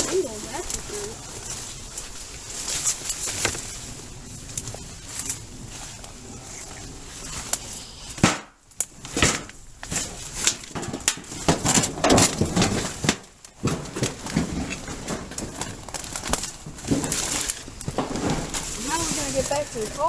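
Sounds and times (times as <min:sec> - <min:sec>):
footsteps crunching: 0:00.0 - 0:06.2, 0:09.6 - 0:20.0
brush rustling through dry weeds: 0:00.0 - 0:20.0
twigs cracking and snapping: 0:00.0 - 0:20.0.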